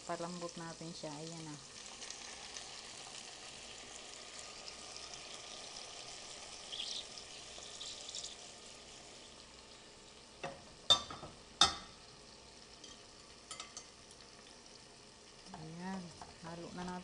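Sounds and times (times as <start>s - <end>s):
meat sizzling with pops: 0.0s - 17.0s.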